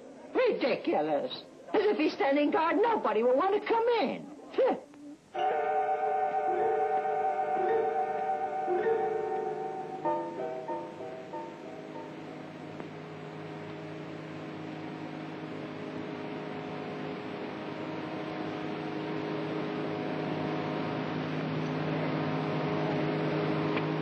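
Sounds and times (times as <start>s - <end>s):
droning hum with hiss: 0.0s - 24.0s.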